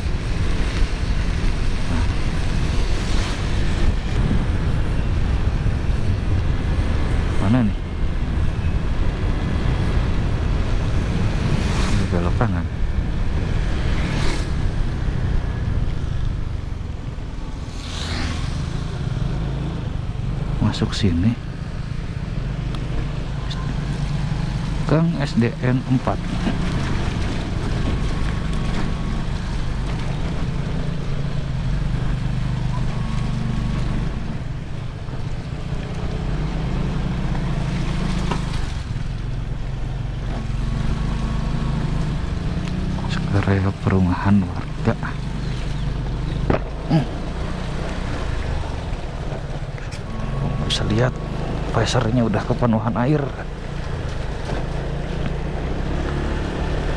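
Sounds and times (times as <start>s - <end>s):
motorcycle engine: 0.0s - 56.9s
wind rumble: 0.0s - 56.9s.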